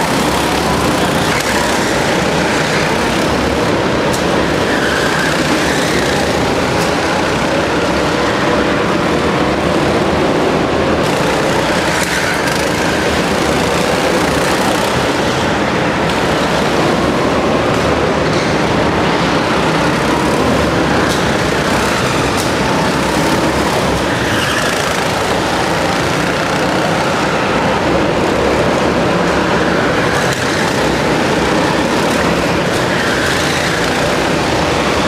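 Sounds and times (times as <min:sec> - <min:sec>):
go-kart engines running: 0:00.0 - 0:35.0.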